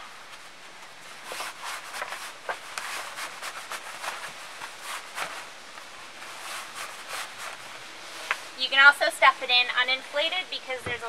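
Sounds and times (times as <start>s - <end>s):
nylon sleeping bag rustling: 0.0s - 9.6s.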